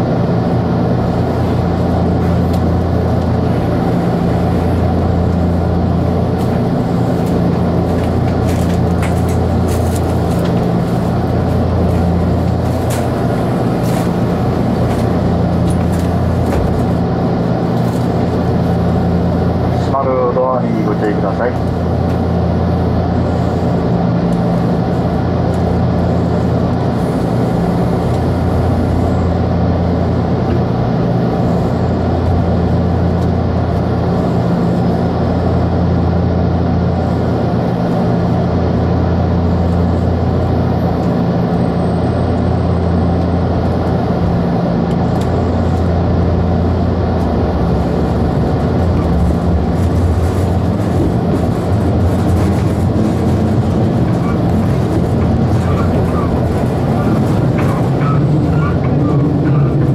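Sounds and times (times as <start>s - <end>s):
train car electrical hum: 0.0s - 59.9s.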